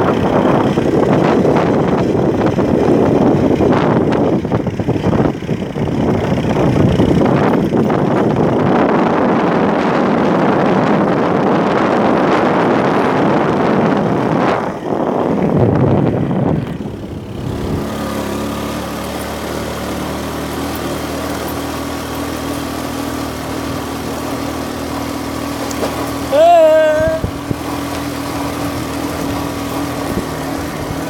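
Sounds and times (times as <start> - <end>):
car engine hum: 0.0 - 31.0
road and wind noise: 0.0 - 31.0.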